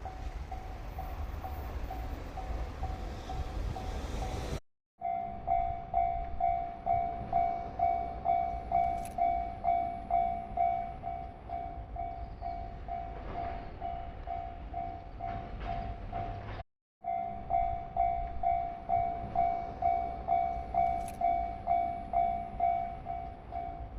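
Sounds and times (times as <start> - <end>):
level-crossing warning bell ringing: 0.0 - 23.9.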